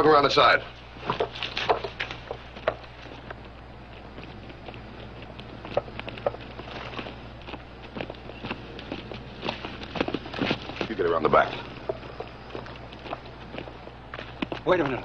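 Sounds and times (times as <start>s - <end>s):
footsteps crunching on dry ground: 0.0s - 15.0s
steady low hum: 0.0s - 15.0s.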